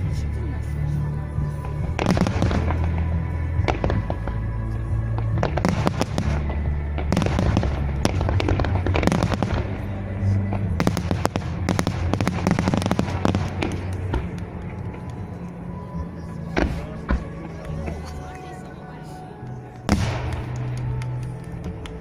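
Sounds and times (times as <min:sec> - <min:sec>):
music playing: 0:00.0 - 0:22.0
fireworks bursting and crackling: 0:01.4 - 0:18.3, 0:19.8 - 0:22.0.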